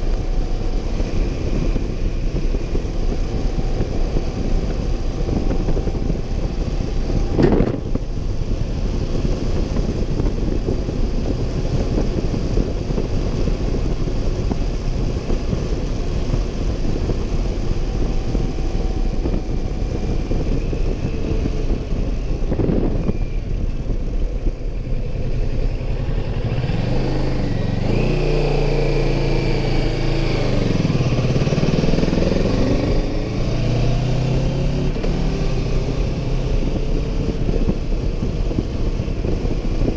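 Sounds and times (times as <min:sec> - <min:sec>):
motorcycle engine: 0:00.0 - 0:39.9
wind rush over microphone: 0:00.0 - 0:39.9.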